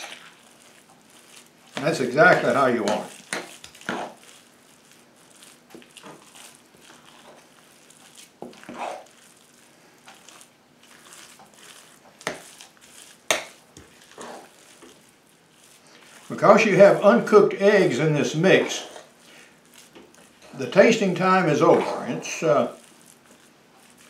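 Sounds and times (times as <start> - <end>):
utensil scraping a bowl: 0.0 - 24.0.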